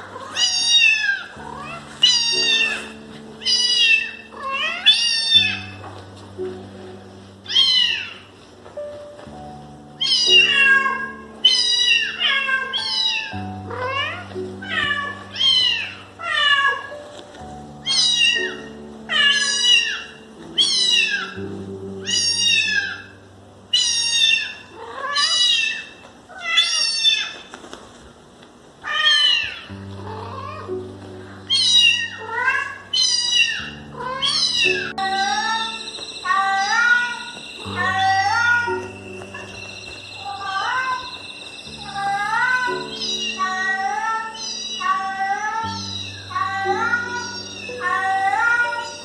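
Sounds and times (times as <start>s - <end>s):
cat meowing: 0.0s - 5.8s, 7.4s - 8.3s, 9.9s - 17.0s, 17.8s - 21.4s, 22.0s - 27.5s, 28.8s - 30.8s, 31.4s - 49.0s
background music: 0.0s - 25.6s, 29.7s - 49.0s.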